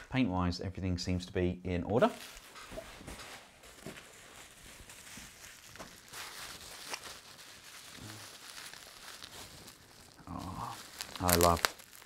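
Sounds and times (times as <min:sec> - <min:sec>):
plastic bag crinkling: 0:02.0 - 0:12.0.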